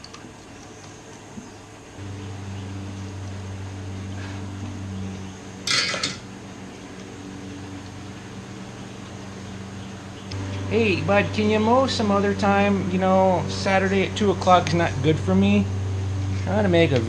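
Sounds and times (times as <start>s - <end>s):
lawn mower engine running: 2.0s - 17.0s.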